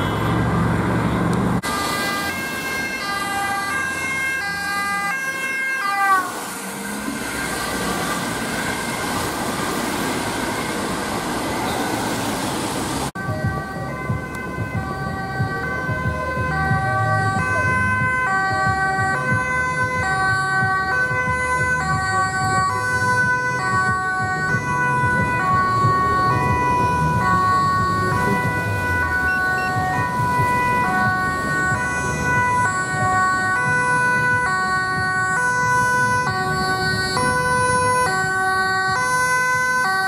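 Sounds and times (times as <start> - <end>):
two-tone ambulance siren: 0.0 - 12.4, 13.0 - 40.0
road traffic noise: 0.0 - 40.0.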